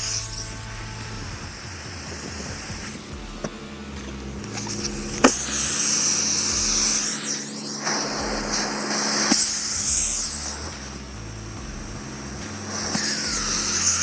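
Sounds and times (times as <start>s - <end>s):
motor hum: 0.0s - 14.0s
rushing airy hiss: 0.0s - 14.0s.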